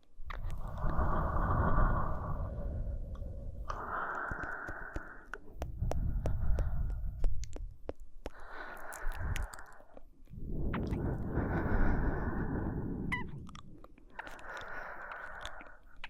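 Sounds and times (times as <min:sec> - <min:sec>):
close breathing into microphone: 0:00.3 - 0:16.0
soft mouth clicks: 0:02.4 - 0:16.0.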